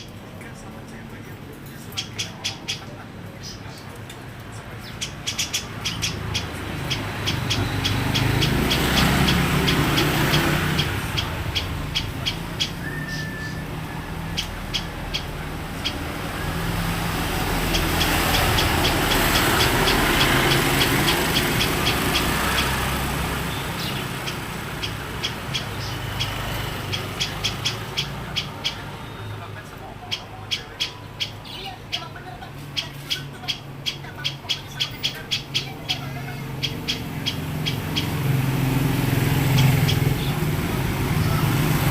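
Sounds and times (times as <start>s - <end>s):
high bird chirps: 0.0s - 0.2s, 1.6s - 4.0s, 4.6s - 41.9s
low traffic rumble: 0.0s - 41.9s
passing vehicle engine hum: 4.4s - 41.9s
songbird chip calls: 4.8s - 40.5s.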